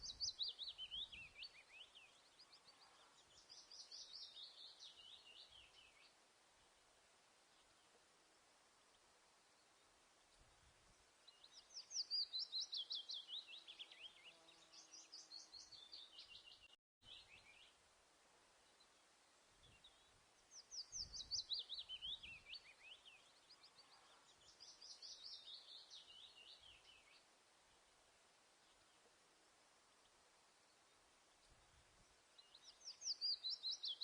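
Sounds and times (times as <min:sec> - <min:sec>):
songbird chirping: 0:00.0 - 0:34.0.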